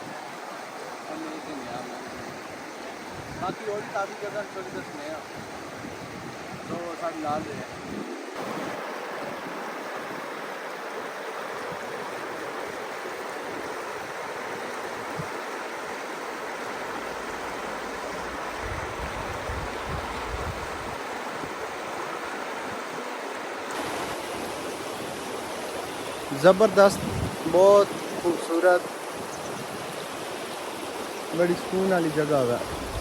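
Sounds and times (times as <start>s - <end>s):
river water rushing over rocks: 0.0s - 7.2s, 8.3s - 33.0s.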